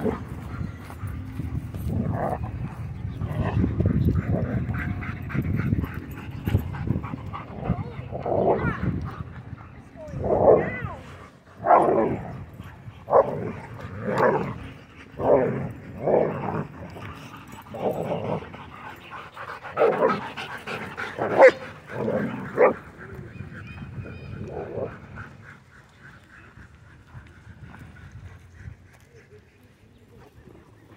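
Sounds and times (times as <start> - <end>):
dogs barking and growling: 0.0 - 29.4.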